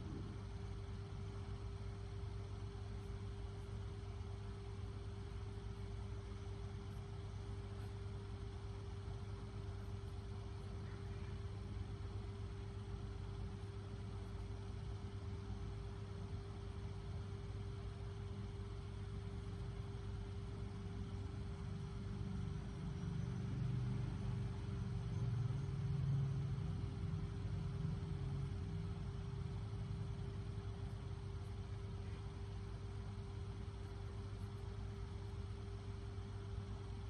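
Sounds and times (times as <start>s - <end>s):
low mechanical rumble: 0.0s - 37.0s
steady hum: 0.0s - 37.0s.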